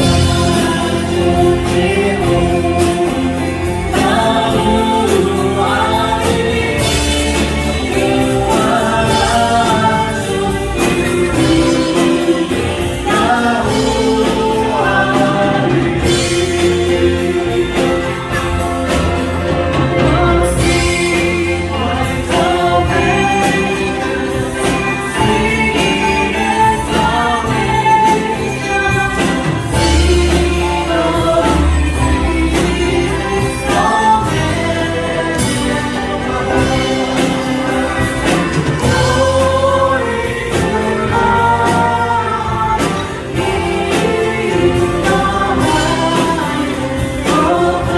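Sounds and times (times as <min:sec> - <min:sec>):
group singing gospel song: 0:00.0 - 0:47.9
instrumental accompaniment: 0:00.0 - 0:47.9
steady percussive beat: 0:00.0 - 0:47.9.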